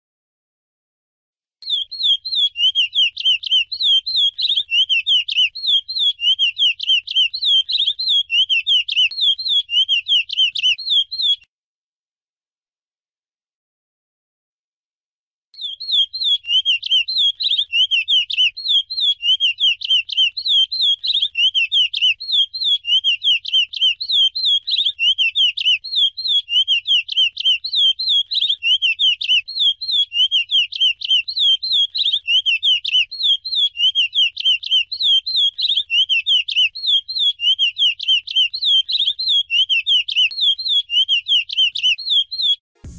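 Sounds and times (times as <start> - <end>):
finch singing whistled notes: 1.6 - 11.4, 15.6 - 42.9.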